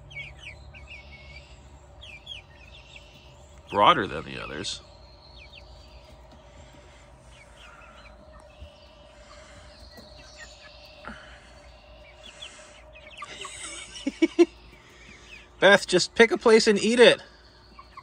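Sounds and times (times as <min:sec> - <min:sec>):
faint bird chirps: 0:00.0 - 0:18.0
faint steady hum: 0:00.0 - 0:18.0.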